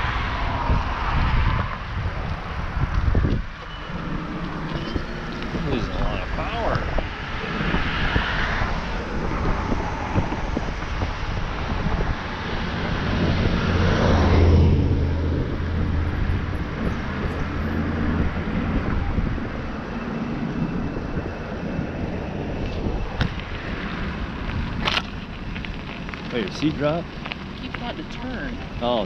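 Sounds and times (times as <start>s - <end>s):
low motor hum: 0.0s - 26.3s
wind and tyre rolling noise: 0.0s - 29.0s.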